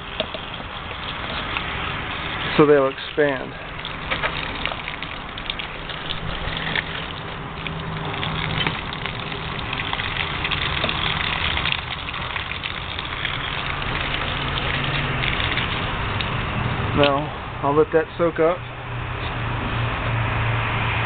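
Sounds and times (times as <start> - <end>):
water pouring and splashing: 0.0 - 18.2.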